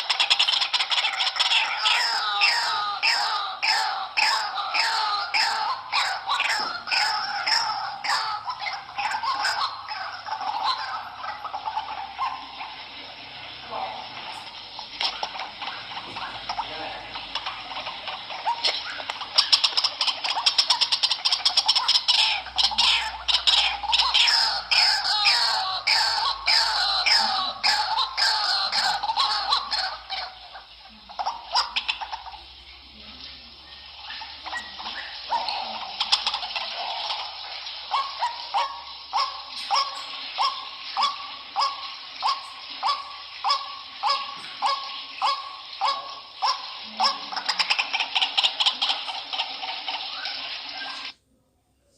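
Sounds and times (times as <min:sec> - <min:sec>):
waterhen calling: 0:00.0 - 0:51.2.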